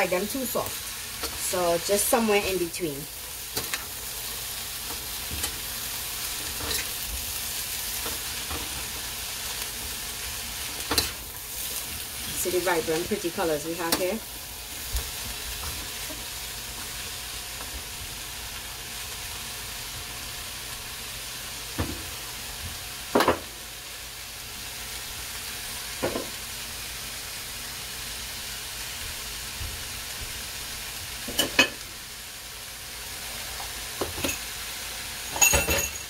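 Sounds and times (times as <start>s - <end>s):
vegetables sizzling in a wok: 0.0s - 36.0s.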